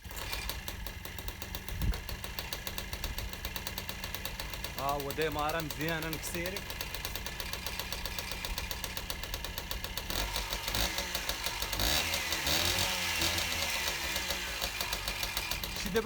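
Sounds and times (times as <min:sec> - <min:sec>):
moped engine revving: 0:00.0 - 0:16.0.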